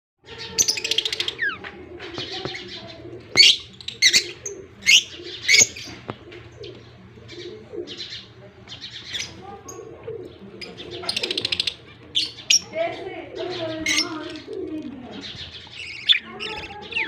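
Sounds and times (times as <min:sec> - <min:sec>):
budgerigar chicks calling: 0:00.3 - 0:14.4, 0:15.1 - 0:17.0.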